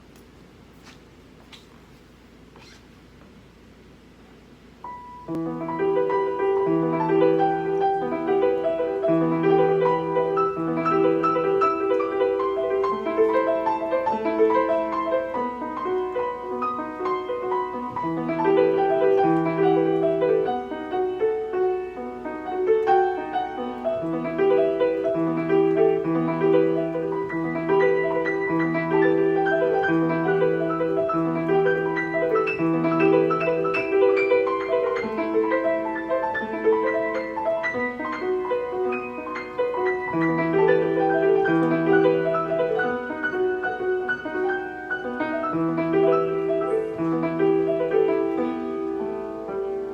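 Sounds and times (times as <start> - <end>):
classical piano piece: 4.8 - 49.9.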